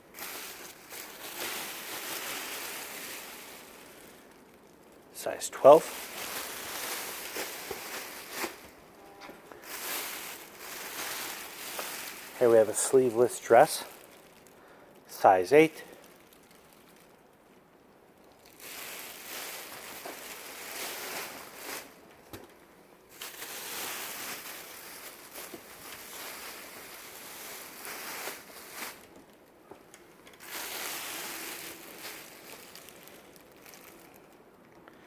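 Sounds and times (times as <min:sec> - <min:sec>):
dress fabric rustling: 0:00.0 - 0:14.6, 0:18.3 - 0:22.1, 0:23.1 - 0:34.3.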